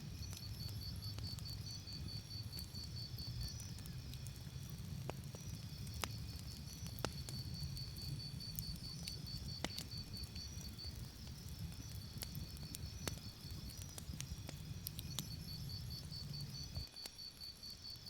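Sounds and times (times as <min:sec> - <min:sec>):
campfire crackling: 0:00.0 - 0:18.0
cricket chirping: 0:00.0 - 0:18.0.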